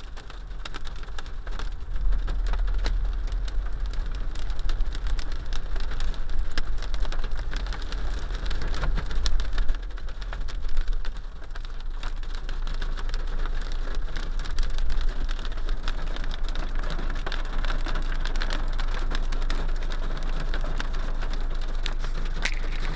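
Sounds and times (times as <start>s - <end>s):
hail and rain on car roof: 0.0s - 22.9s.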